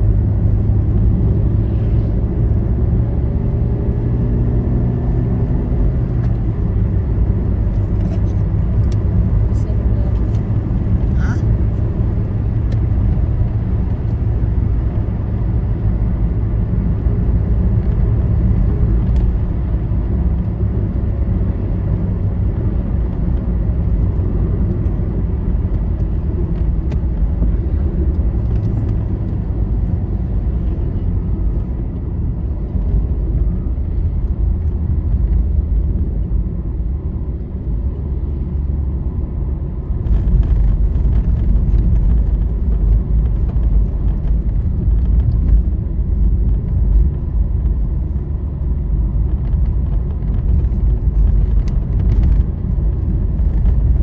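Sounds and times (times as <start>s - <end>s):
vehicle engine and tyre rumble: 0.0s - 54.0s.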